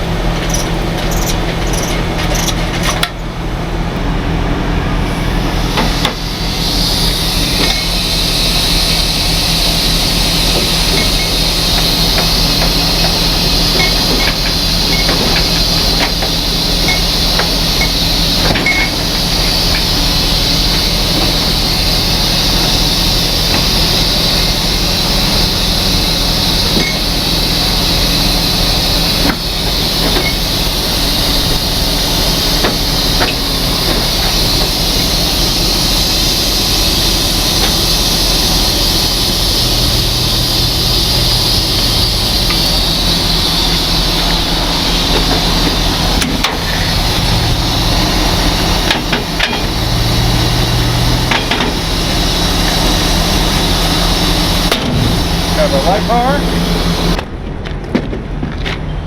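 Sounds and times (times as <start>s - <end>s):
truck diesel engine running: 0.0s - 59.0s
loud even hiss: 4.9s - 57.4s.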